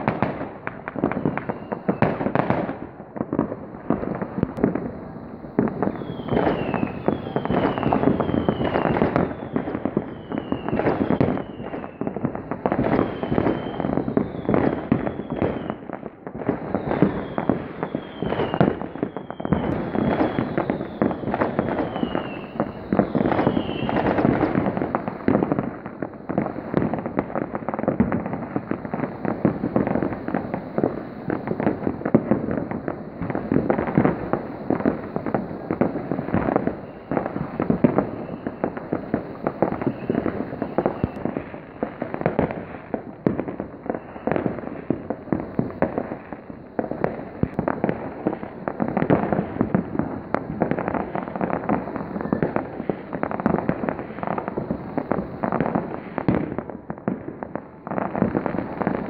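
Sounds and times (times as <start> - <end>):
fireworks bangs and crackles: 0.0 - 59.0
high falling firework whistle: 0.0 - 59.0.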